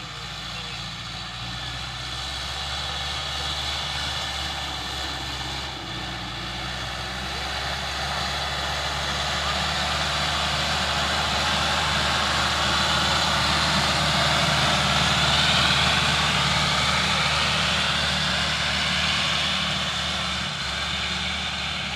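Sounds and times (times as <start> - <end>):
tractor engine running under load: 0.0 - 21.9.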